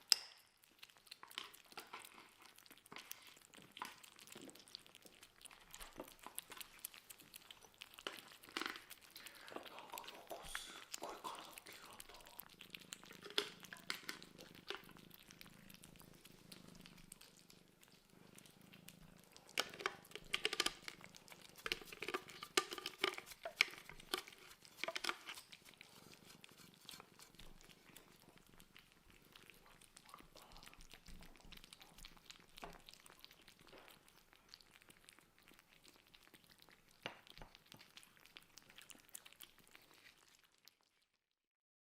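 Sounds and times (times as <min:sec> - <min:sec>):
kittens purring: 0:00.0 - 0:41.2
wet chewing and lapping clicks: 0:00.0 - 0:41.2.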